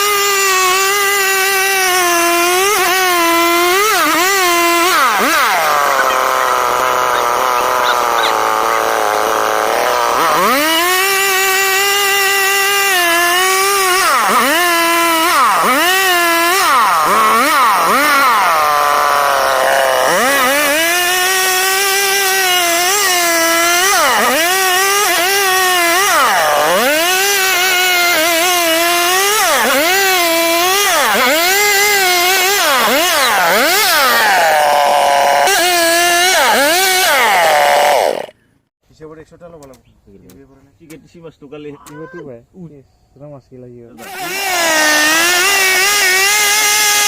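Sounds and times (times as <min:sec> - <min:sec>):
chainsaw running at high speed: 0:00.0 - 0:38.4, 0:44.0 - 0:47.0.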